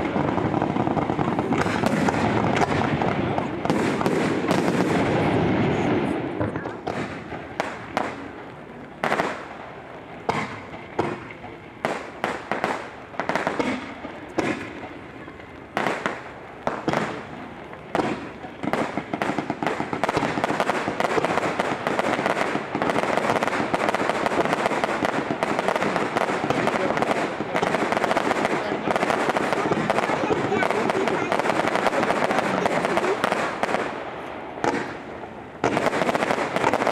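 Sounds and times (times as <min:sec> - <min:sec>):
aerial fireworks bangs and crackle: 0:00.0 - 0:36.9.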